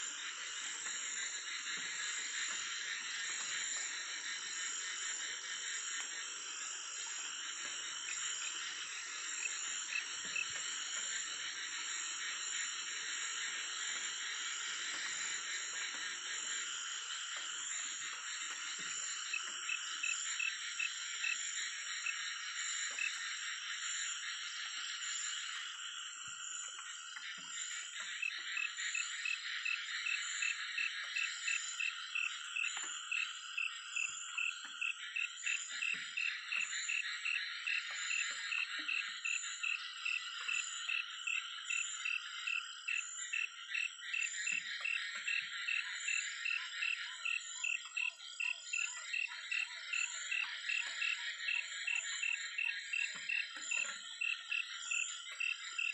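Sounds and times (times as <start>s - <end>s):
frogs and insects trilling: 0.0s - 55.9s.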